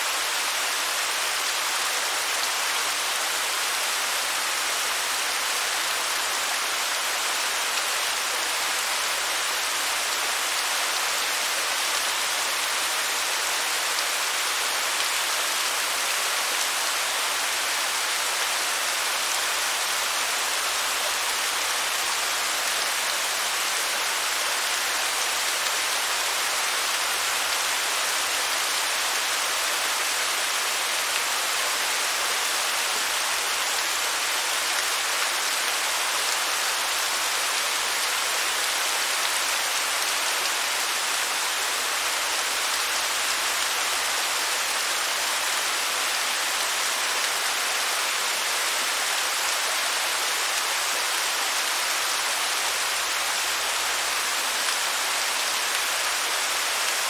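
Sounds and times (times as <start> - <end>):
waterfall hiss: 0.0 - 57.0.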